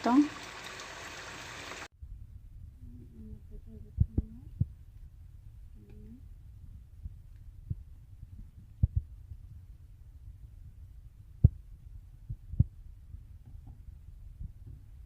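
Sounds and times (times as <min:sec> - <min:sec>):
low steady hum: 0:02.0 - 0:15.0.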